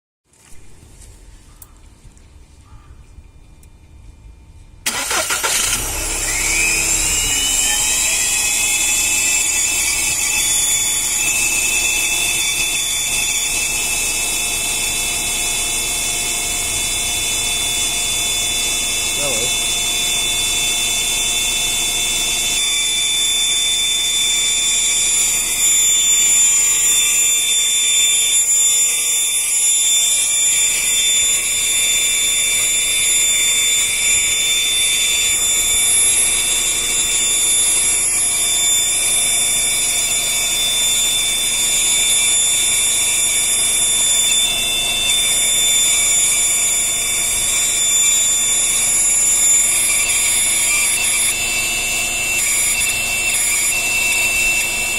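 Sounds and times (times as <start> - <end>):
air compressor whistling: 4.9 - 54.9.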